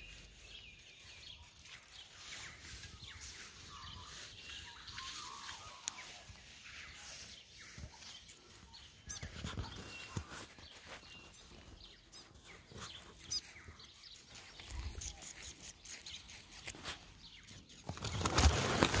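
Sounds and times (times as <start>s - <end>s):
small bird chirping: 0.0s - 18.6s
phone brushing through grass: 0.0s - 19.0s
rustling and handling noise: 0.0s - 19.0s.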